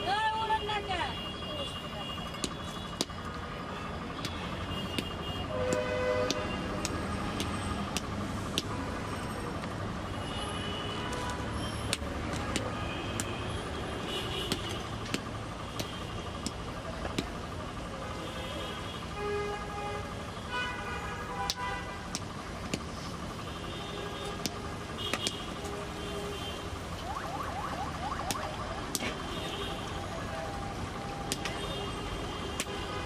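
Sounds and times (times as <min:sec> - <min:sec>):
street traffic din: 0:00.0 - 0:33.0.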